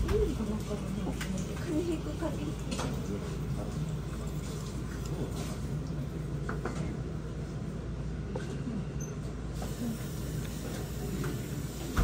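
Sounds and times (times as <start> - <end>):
restaurant room hum: 0.0 - 12.0.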